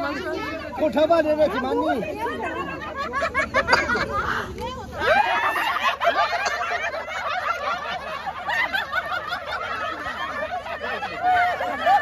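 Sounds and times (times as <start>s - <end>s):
group laughing and shrieking: 1.3s - 12.0s.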